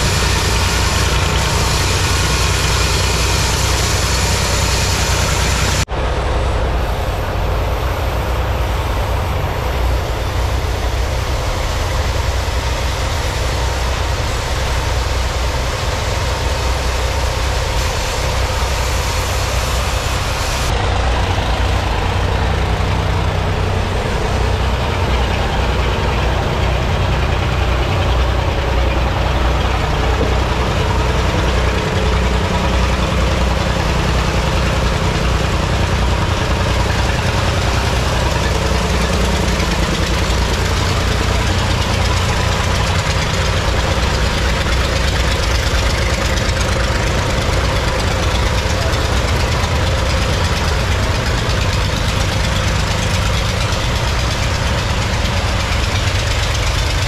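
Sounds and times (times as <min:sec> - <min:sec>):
machinery engine low drone: 0:00.0 - 0:57.0.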